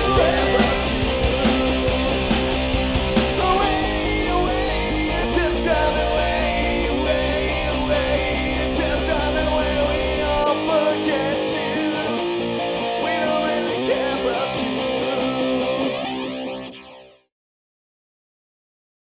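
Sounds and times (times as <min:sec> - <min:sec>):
person singing: 0:00.0 - 0:16.6
rock song on rhythm guitars: 0:00.0 - 0:17.2.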